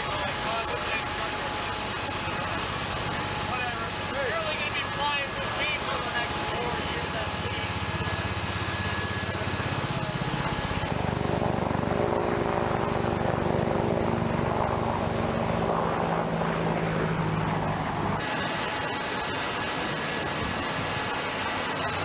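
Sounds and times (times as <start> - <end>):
aircraft engines droning: 0.0 - 22.0.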